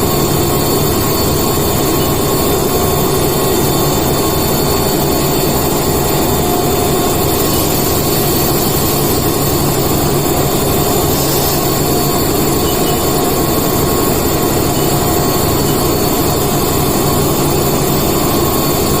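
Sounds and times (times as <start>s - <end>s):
high whining tones: 0.0s - 18.6s
machine drone and hiss: 0.0s - 19.0s.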